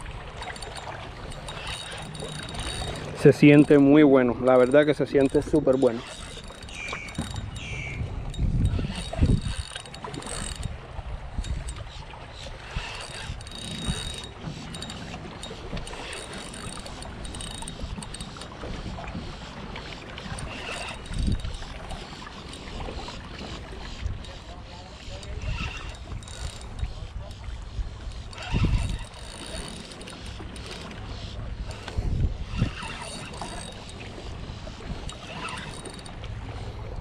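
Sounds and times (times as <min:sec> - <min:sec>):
fishing reel clicking and whirring: 0:00.0 - 0:37.0
wind buffeting microphone: 0:00.0 - 0:37.0.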